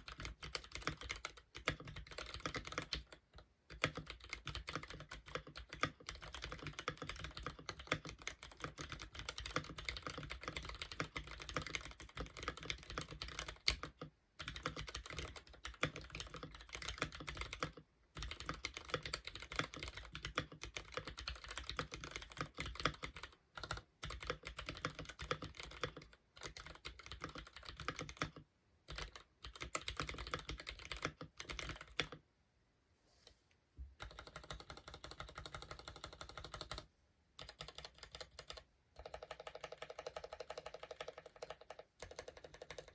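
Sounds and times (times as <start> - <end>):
mechanical keyboard typing: 0.0 - 32.2, 34.0 - 42.9.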